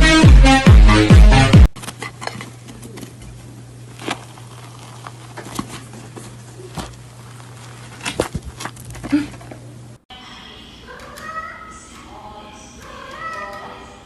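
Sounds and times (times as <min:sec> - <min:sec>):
low electrical hum: 0:01.7 - 0:14.0.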